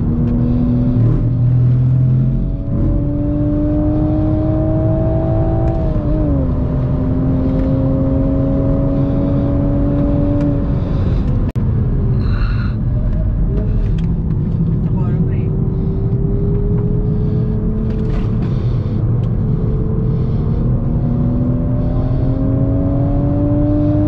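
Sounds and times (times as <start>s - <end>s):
car engine accelerating from cabin: 0.0s - 24.0s.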